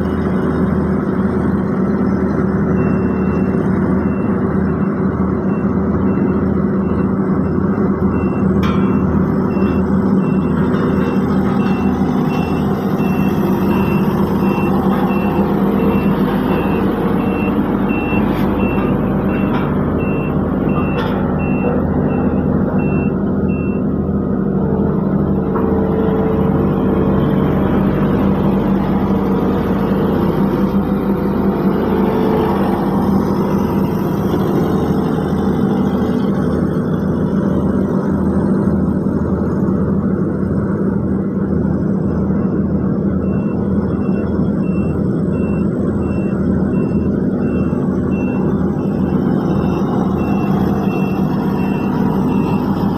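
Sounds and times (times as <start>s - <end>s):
diesel paving machinery rumbling: 0.0s - 52.9s
reversing alarm beeping: 2.6s - 24.0s, 24.7s - 36.8s, 42.0s - 52.9s.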